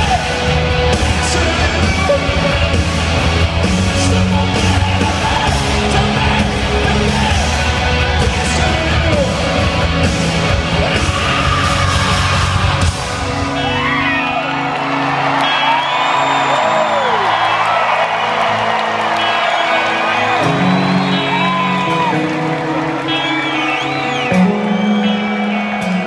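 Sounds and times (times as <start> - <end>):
crowd yelling: 0.0 - 26.0
distorted guitars: 0.0 - 26.0
drums: 0.0 - 26.0
live rock band playing: 0.0 - 26.0.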